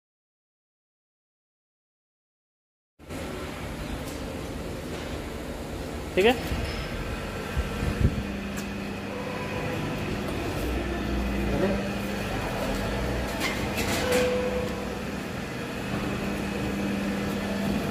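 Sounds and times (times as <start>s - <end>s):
machine motor humming: 3.0s - 17.9s.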